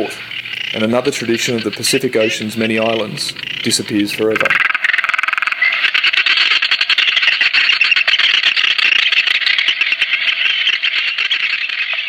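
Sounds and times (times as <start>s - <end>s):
seabirds croaking calls: 0.0s - 12.0s.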